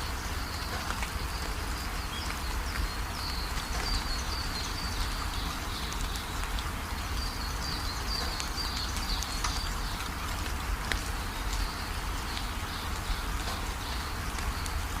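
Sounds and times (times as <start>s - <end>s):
rain with drop ticks: 0.0s - 15.0s.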